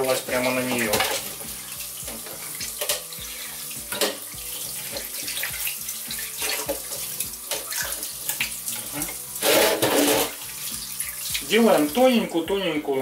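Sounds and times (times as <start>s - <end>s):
tap water running into pot: 0.0s - 12.4s.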